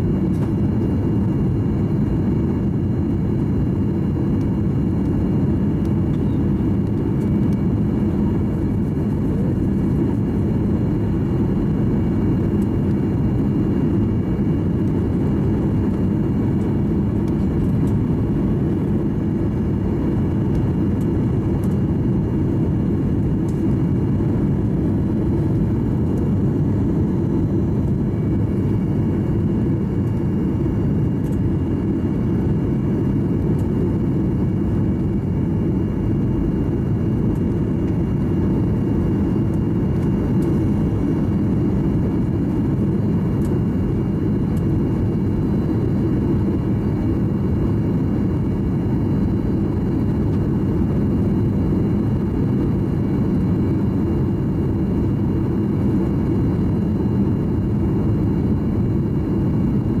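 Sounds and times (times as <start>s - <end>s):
aircraft cabin engine rumble: 0.0s - 60.0s.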